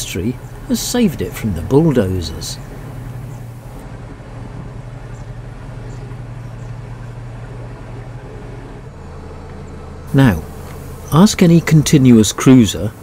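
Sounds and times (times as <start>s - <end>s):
boat diesel engine humming: 0.0s - 13.0s.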